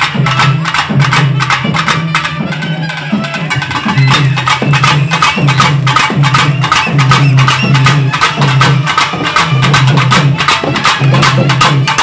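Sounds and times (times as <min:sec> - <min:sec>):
drums beaten with sticks: 0:00.0 - 0:12.0.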